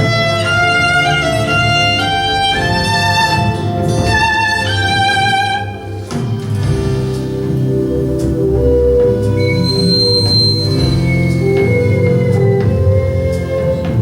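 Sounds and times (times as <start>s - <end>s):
low sustained backing tones: 0.0s - 14.0s
violin slow melody: 0.0s - 14.0s.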